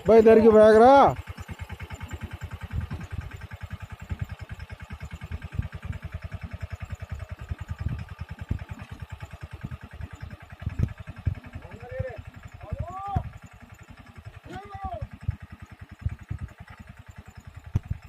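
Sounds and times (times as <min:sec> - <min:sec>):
diesel tractor engine chugging: 0:00.0 - 0:18.0.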